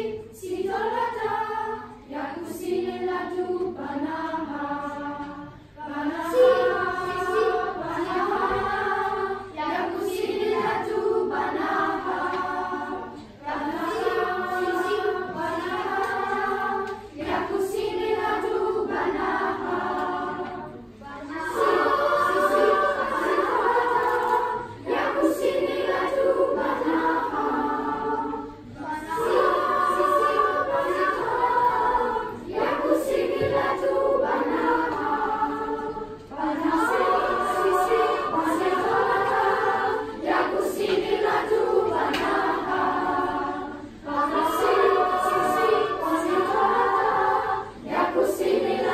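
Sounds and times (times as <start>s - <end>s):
children's choir singing: 0.0s - 48.9s.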